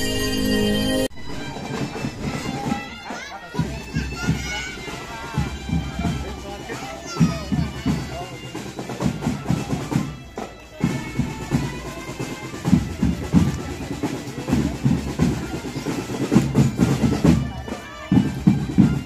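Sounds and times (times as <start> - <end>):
marching drum band playing: 1.2 - 19.0.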